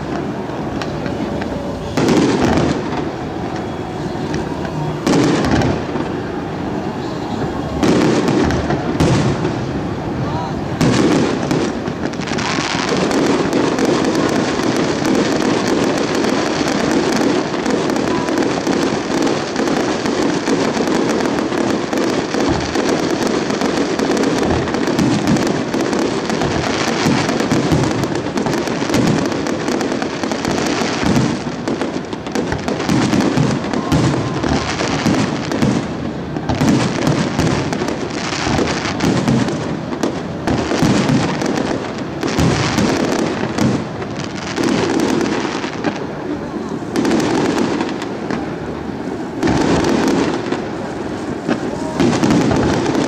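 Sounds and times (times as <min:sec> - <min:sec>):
fireworks bangs and crackle: 0:00.0 - 0:53.0.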